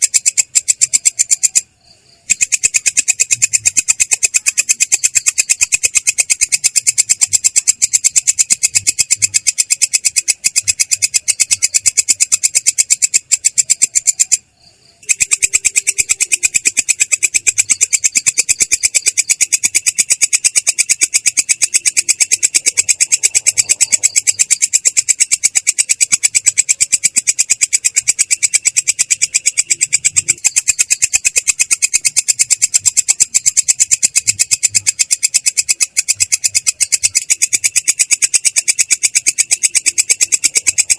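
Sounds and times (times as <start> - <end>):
katydid rasping stridulation: 0.0 - 40.9.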